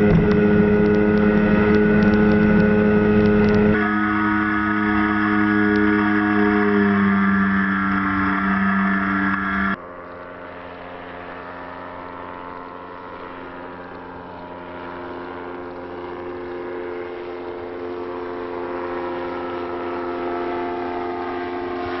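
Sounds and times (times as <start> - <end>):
motorized hang glider engine droning: 0.0 - 22.0.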